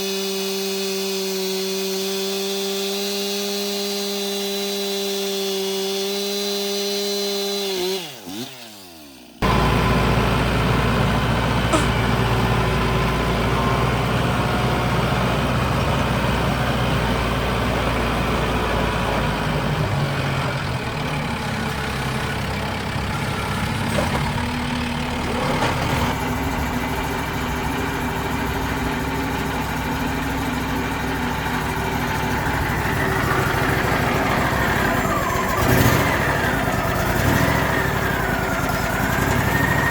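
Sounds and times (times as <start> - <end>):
loud engine running: 0.0 - 39.9.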